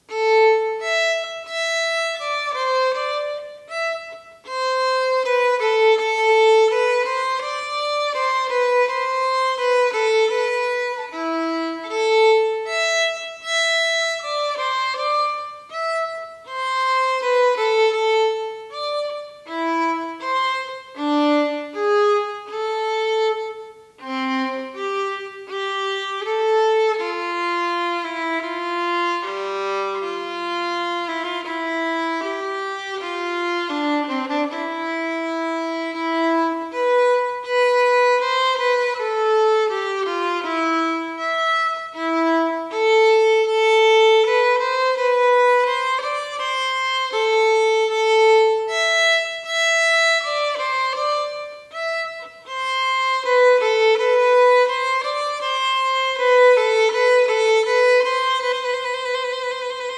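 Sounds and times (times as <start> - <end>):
solo violin playing: 0.0 - 59.9.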